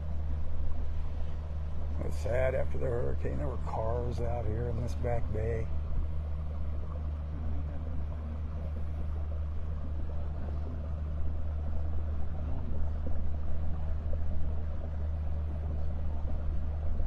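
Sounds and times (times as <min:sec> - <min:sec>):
boat engine droning: 0:00.0 - 0:17.0
wind: 0:00.0 - 0:17.0.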